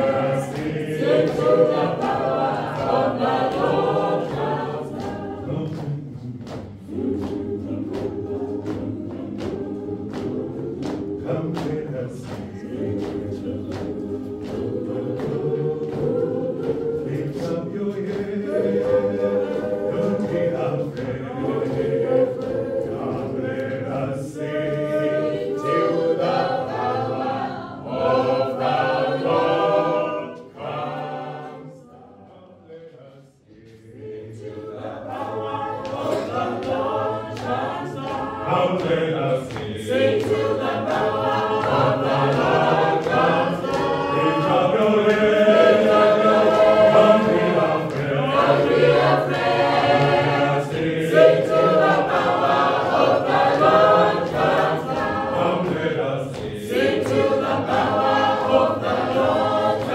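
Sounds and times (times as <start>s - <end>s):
sharp rhythmic knocks: 0.0s - 32.3s, 33.5s - 59.9s
choir singing: 0.0s - 59.9s.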